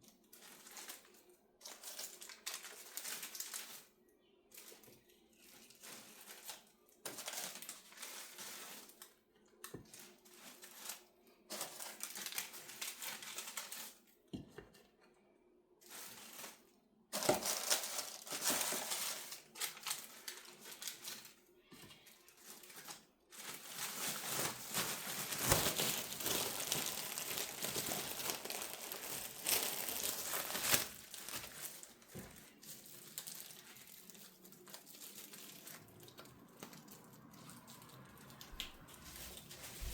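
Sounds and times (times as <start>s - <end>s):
baking paper crinkling: 0.0s - 15.0s, 15.8s - 39.9s.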